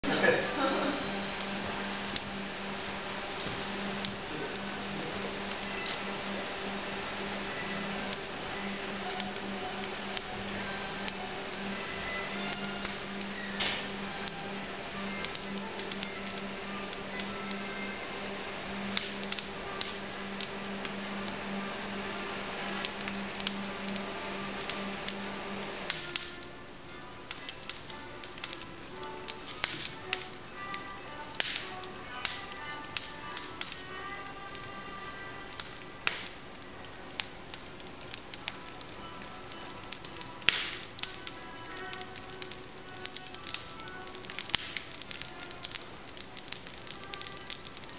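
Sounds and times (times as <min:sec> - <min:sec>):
sharp fire pops: 0:00.0 - 0:47.9
steady hiss: 0:00.0 - 0:47.9
wood fire crackling: 0:00.0 - 0:47.9.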